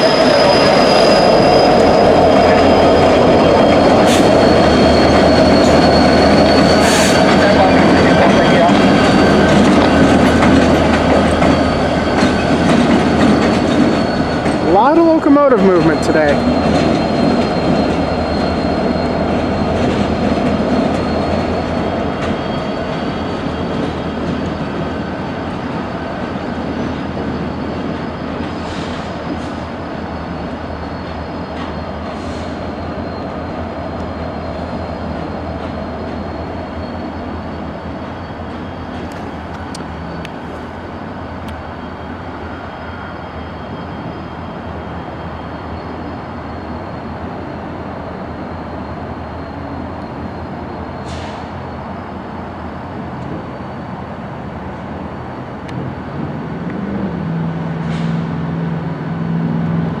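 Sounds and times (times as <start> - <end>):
locomotive engine drone: 0.0 - 60.0.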